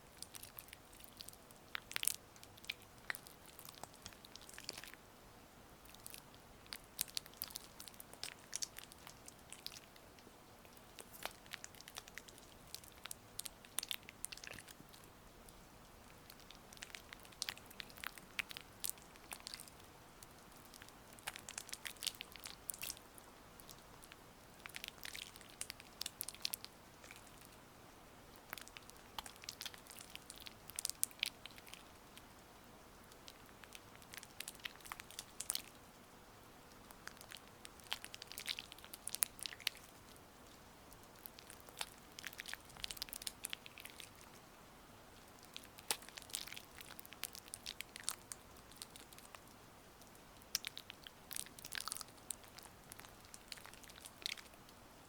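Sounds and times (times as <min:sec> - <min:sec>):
wet sticky crackling clicks: 0:00.2 - 0:05.0, 0:05.8 - 0:27.6, 0:28.3 - 0:32.3, 0:33.0 - 0:36.0, 0:36.7 - 0:44.4, 0:45.1 - 0:54.8.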